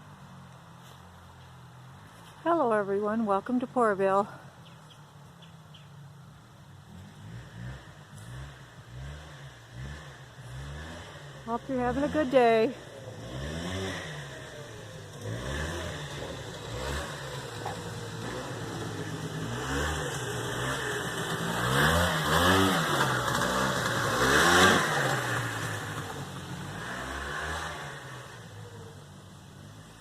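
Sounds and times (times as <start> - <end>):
vehicle engine revving: 0.0 - 30.0.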